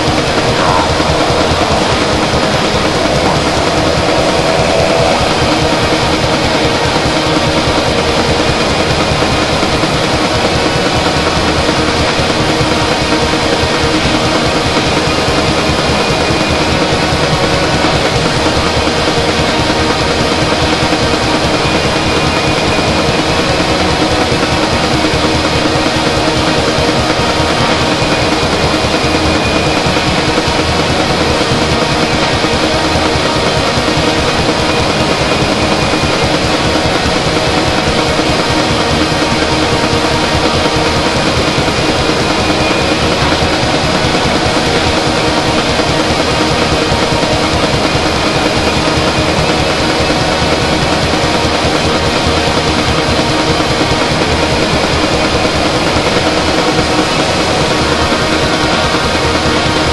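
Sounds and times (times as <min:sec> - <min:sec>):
droning music: 0:00.0 - 0:59.9.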